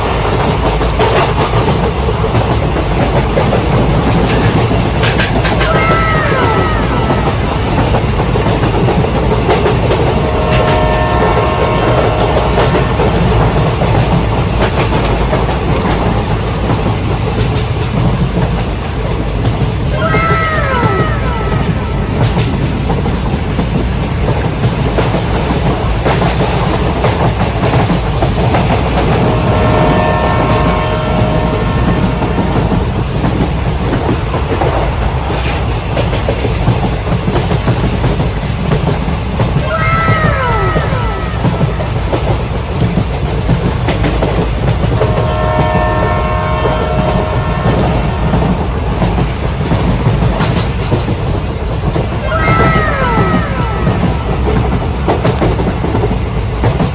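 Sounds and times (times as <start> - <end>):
model train rolling rumble: 0.0 - 56.9
wheels clicking over rail joints: 0.0 - 56.9.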